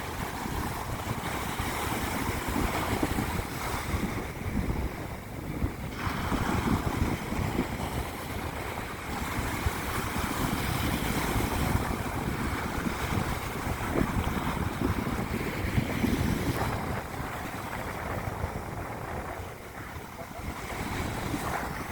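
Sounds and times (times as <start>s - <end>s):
surf washing onto beach: 0.0s - 21.9s
wind buffeting microphone: 0.0s - 21.9s.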